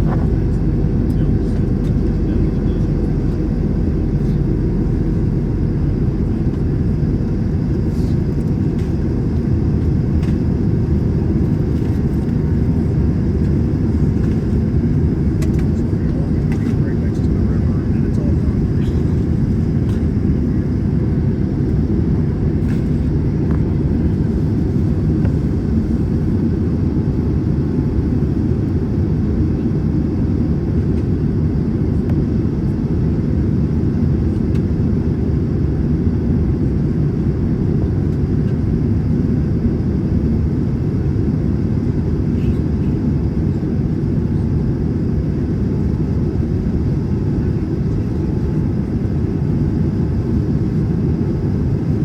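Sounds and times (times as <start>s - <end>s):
aircraft cabin rumble: 0.0s - 52.0s.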